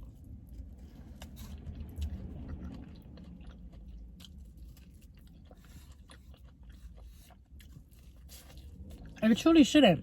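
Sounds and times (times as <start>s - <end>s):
person chewing and biting food: 0.0s - 9.2s
low steady hum: 0.0s - 10.0s.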